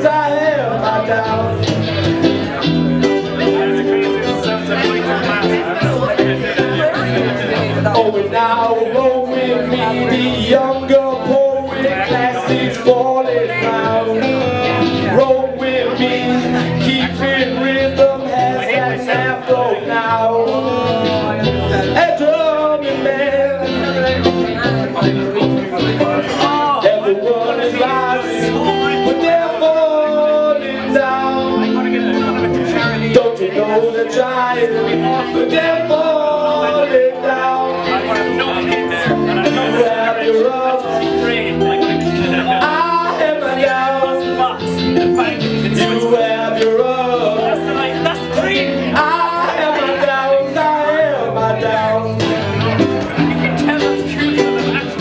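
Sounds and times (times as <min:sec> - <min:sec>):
drums: 0:00.0 - 0:55.0
electric bass: 0:00.0 - 0:55.0
man singing: 0:00.0 - 0:55.0
sliding lead melody: 0:00.0 - 0:55.0
strummed acoustic guitars: 0:00.0 - 0:55.0.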